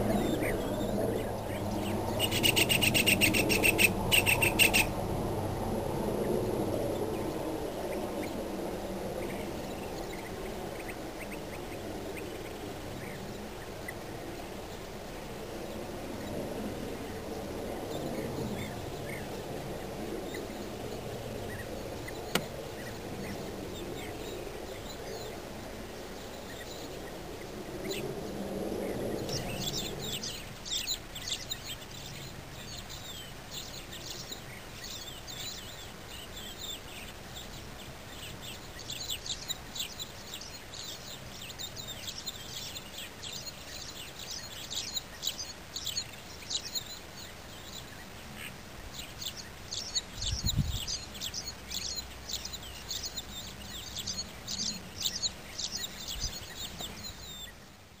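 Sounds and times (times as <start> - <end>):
small birds chattering: 0.0 - 5.2, 6.1 - 58.0.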